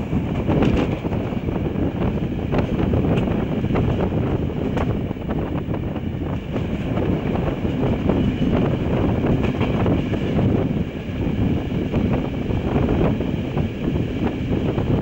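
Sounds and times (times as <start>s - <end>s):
train rumble: 0.0s - 15.0s
wind on microphone: 0.0s - 15.0s.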